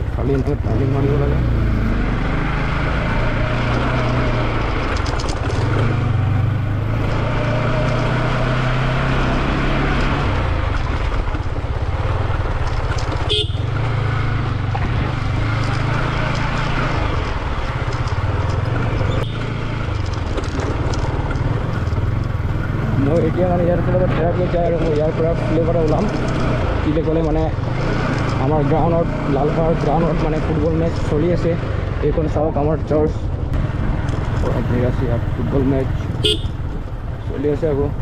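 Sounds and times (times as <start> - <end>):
motorcycle engine running: 0.1 - 32.5, 33.2 - 38.0.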